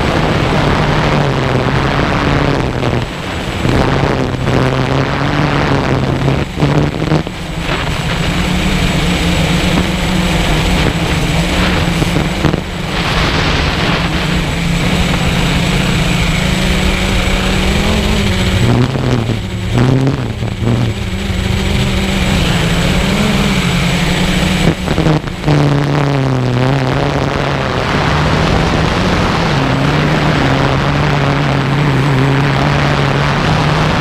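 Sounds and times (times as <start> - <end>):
drone motors humming: 0.0 - 34.0
wind over microphone: 0.0 - 34.0.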